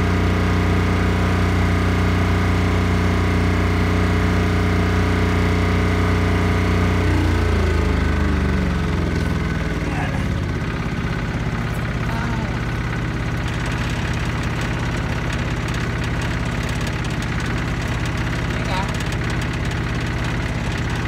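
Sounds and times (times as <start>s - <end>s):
welder engine running: 0.0s - 21.0s.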